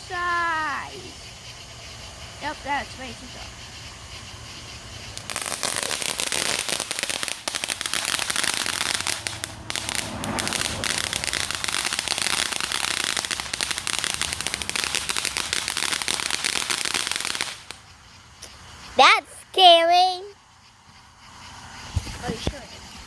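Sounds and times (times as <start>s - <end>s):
fireworks crackling: 0.0s - 23.0s.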